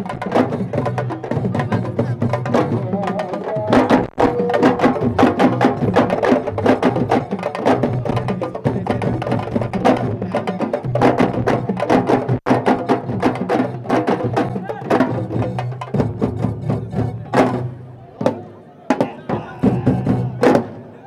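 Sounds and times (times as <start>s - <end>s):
fast dense drumming: 0.0s - 20.8s
pitched music: 0.0s - 20.8s.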